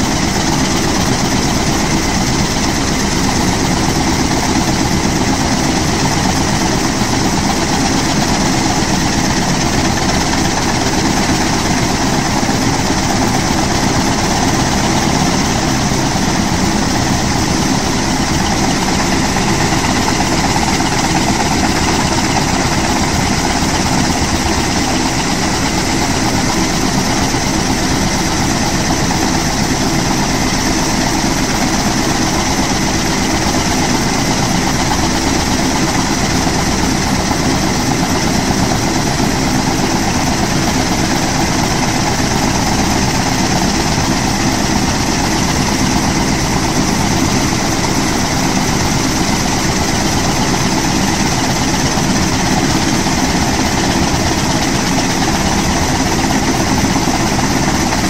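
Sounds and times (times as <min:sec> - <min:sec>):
helicopter idling: 0:00.0 - 0:58.0.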